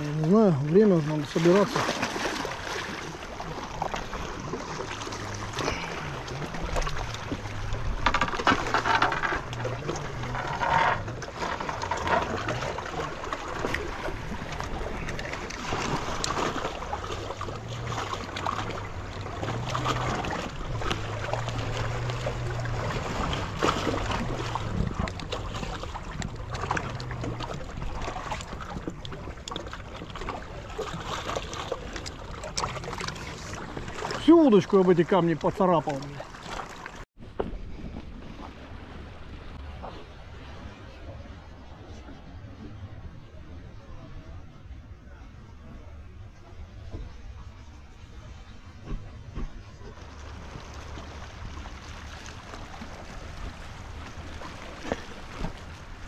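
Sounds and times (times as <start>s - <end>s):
sea water washing among rocks: 0.0s - 41.0s, 49.8s - 56.0s.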